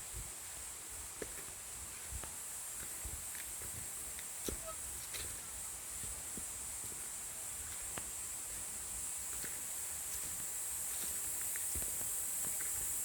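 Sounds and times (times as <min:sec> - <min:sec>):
footsteps on forest trail: 0:00.0 - 0:13.0
high-pitched hiss: 0:00.0 - 0:13.0.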